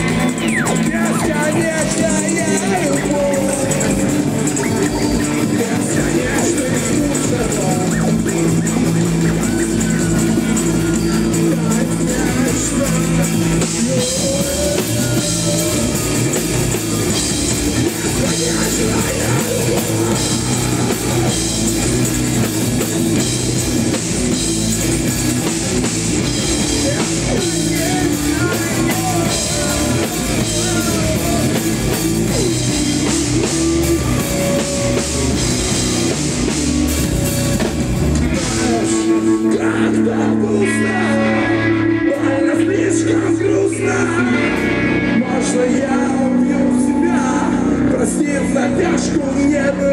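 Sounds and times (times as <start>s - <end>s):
drum kit: 0.0s - 42.5s
guitar line bending in pitch: 0.0s - 43.2s.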